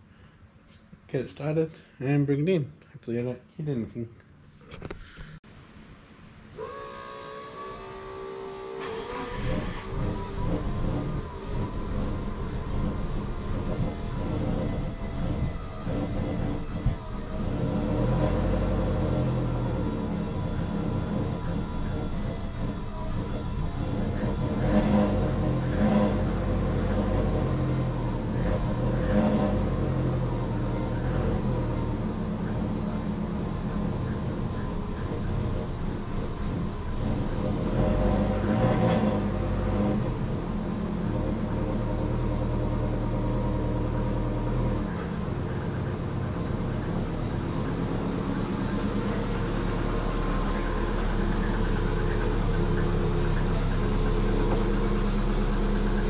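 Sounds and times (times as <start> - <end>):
car engine revving and idling: 8.5 - 56.0.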